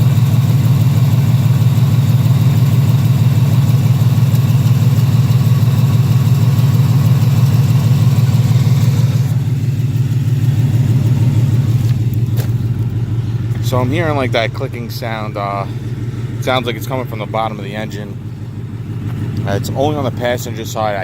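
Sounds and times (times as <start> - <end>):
car engine idling: 0.0 - 21.0
rapid engine ticking: 0.0 - 21.0.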